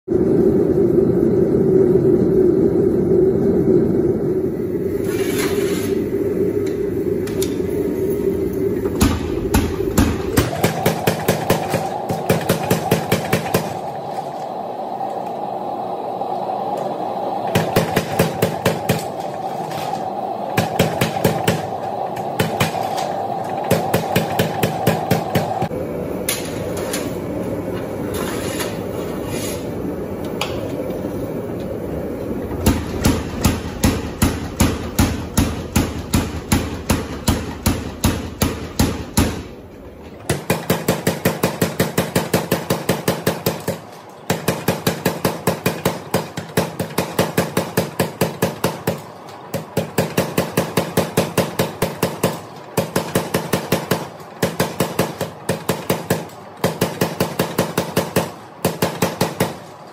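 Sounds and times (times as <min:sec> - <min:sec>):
steady rushing noise: 0:00.1 - 0:59.9.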